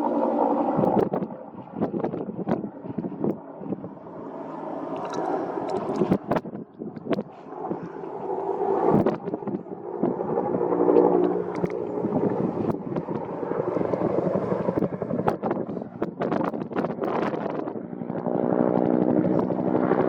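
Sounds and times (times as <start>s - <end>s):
aircraft engine drone: 0.0s - 20.0s
wind buffeting microphone: 0.0s - 20.0s.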